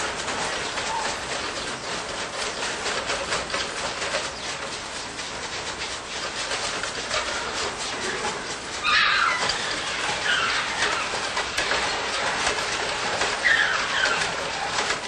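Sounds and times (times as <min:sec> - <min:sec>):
wire-mesh cages rattling: 0:00.0 - 0:15.0.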